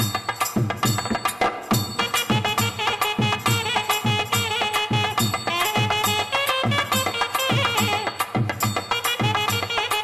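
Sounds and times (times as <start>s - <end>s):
barrel drum beating: 0.0s - 10.0s
reedy wind instrument melody: 1.9s - 10.0s.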